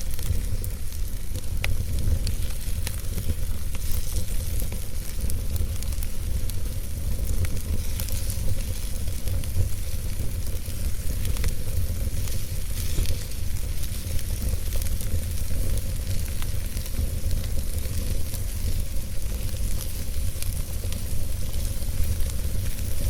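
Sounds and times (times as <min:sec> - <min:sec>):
wood fire crackling and hissing: 0:00.0 - 0:23.0.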